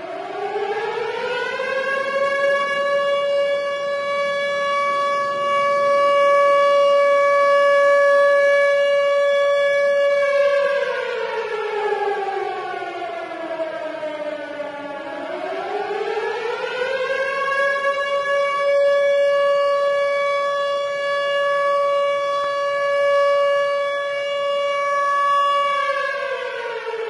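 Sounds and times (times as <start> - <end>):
warning siren wailing: 0.0 - 27.0.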